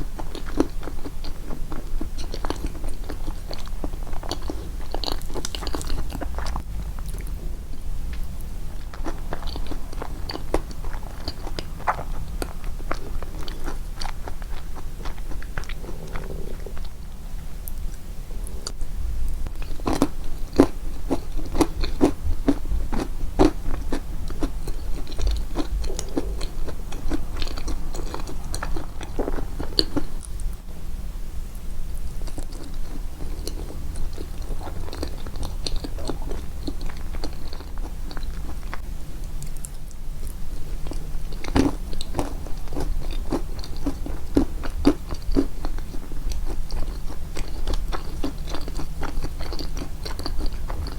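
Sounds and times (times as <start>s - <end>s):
chewing and biting cake: 0.0s - 17.2s, 19.5s - 30.7s, 32.0s - 50.9s.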